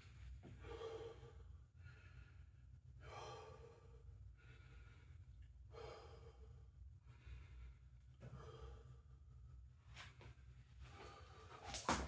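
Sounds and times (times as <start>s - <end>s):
man breathing hard: 0.0s - 9.8s, 10.8s - 11.9s.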